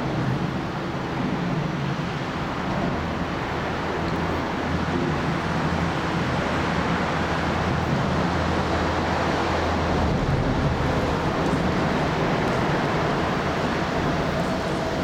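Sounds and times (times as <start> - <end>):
locomotive diesel engine drone: 0.0 - 15.0
train rushing noise: 0.0 - 15.0.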